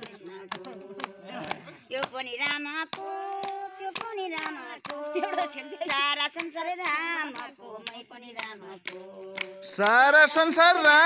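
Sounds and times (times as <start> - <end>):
hand-clapping: 0.0 - 11.0
voices singing devotional song: 0.0 - 11.0.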